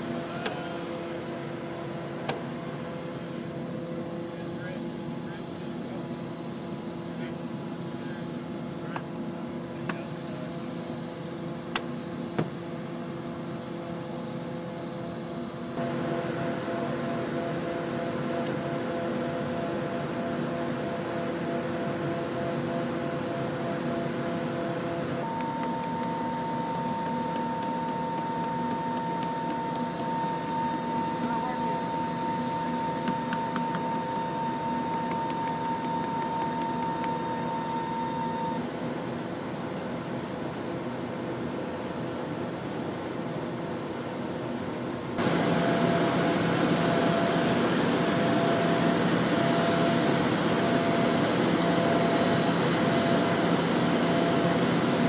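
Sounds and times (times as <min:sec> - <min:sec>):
aircraft machinery whine and rumble: 0:00.0 - 0:55.0
steady mechanical hum: 0:00.0 - 0:55.0.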